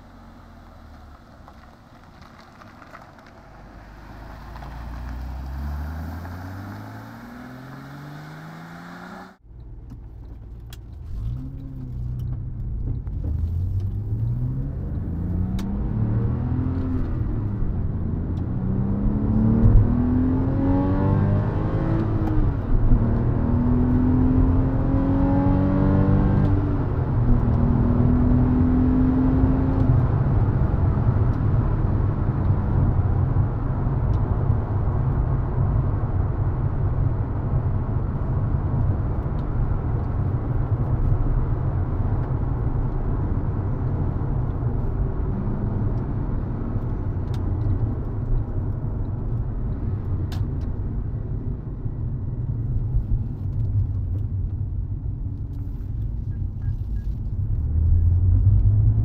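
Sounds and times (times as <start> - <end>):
car engine accelerating through gears: 0.0 - 9.4, 11.0 - 59.0
road rumble: 0.0 - 59.0.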